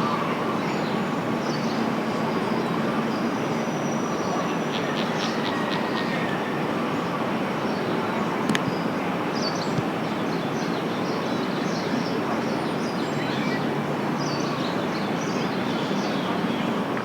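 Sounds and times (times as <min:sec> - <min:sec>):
city noise roar: 0:00.0 - 0:17.0.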